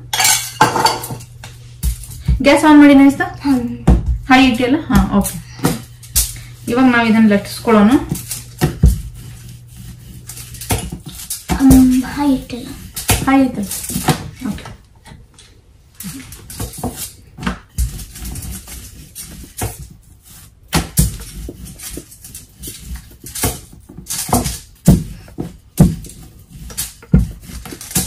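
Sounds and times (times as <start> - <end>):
rolling pin on foil: 0.0 - 14.8, 15.4 - 28.0.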